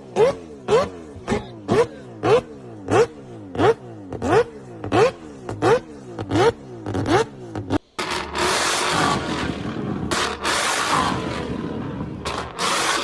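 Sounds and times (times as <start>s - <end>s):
car engine revving in blips: 0.0s - 13.0s
loud steady rushing roar: 0.0s - 13.0s.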